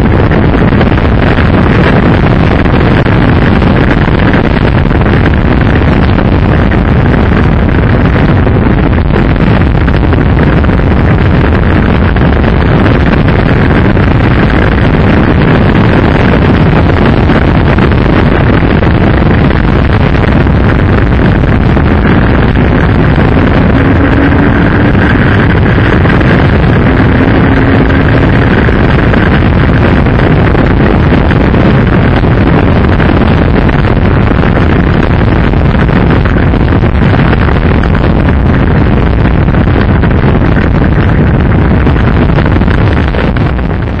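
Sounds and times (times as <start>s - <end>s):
wind blasting on microphone: 0.0s - 44.0s.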